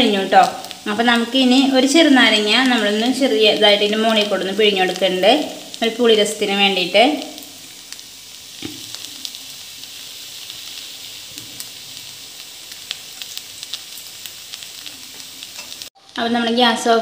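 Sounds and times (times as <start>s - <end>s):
noodles sizzling in a pan: 0.0s - 17.0s.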